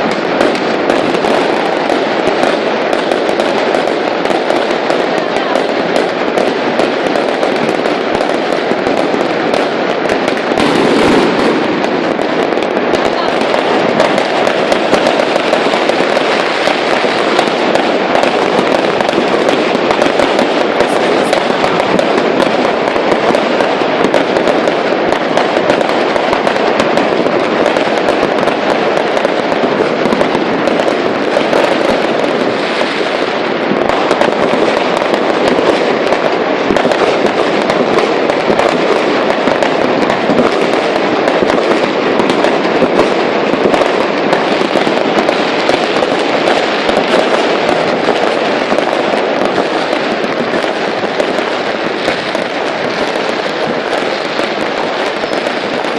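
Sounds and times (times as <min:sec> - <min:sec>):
fireworks crackling: 0:00.0 - 0:55.9.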